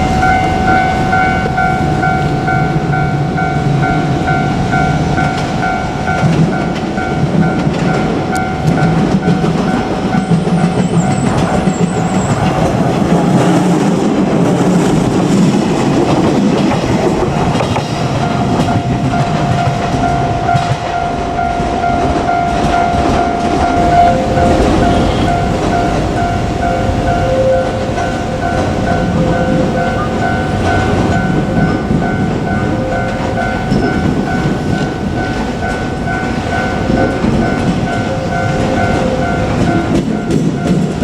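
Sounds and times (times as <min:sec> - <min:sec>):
crossing warning bell ringing: 0:00.0 - 0:41.0
train wheels clattering: 0:00.0 - 0:41.0.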